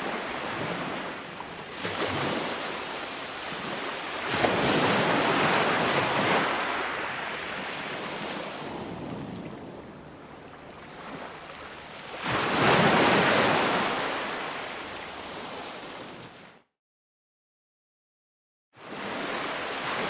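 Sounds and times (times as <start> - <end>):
ocean waves breaking on shore: 0.0 - 16.6, 18.8 - 20.0.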